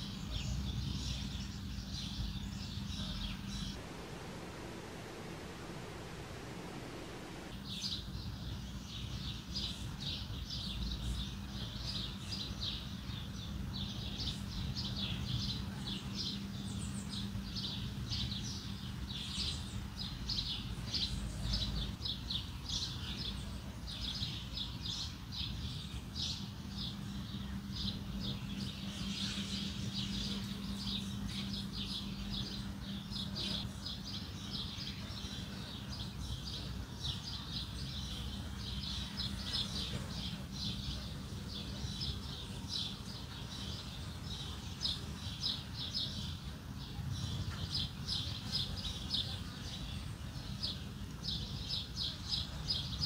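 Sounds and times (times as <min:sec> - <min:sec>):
birds chirping: 0:00.0 - 0:53.0
steady low hum: 0:00.0 - 0:53.0.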